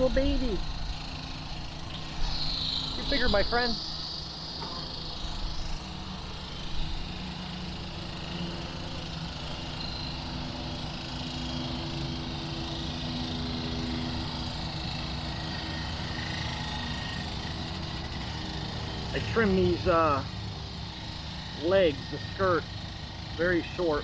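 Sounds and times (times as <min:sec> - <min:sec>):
highway traffic drone: 0:00.0 - 0:24.0
low engine hum: 0:00.0 - 0:24.0.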